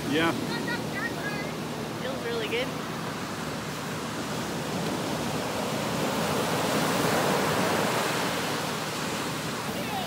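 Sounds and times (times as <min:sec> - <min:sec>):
surf washing up a pebble beach: 0:00.0 - 0:10.0.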